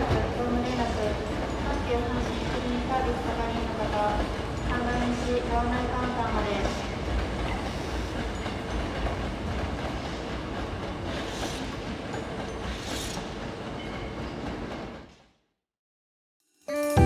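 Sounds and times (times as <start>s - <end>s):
train wheel and track rumble: 0.0s - 15.2s.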